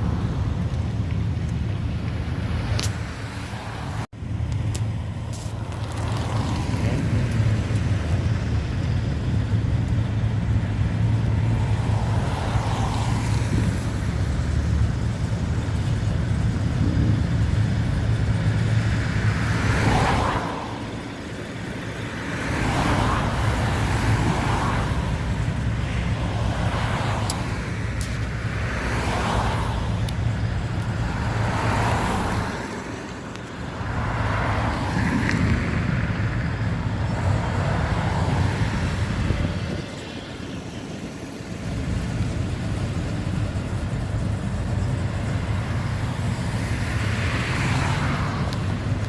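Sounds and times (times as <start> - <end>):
car engines rumbling: 0.0 - 49.0
cars driving past: 0.0 - 49.0.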